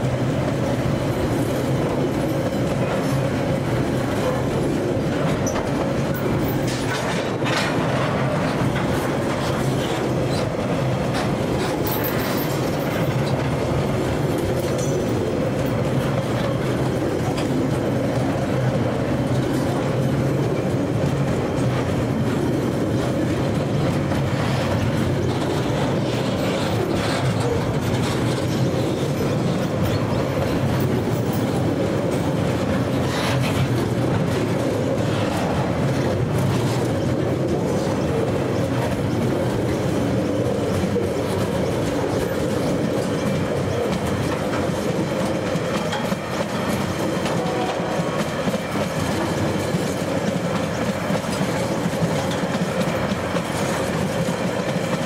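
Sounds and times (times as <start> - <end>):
steel wheels clattering on rails: 0.0 - 55.0.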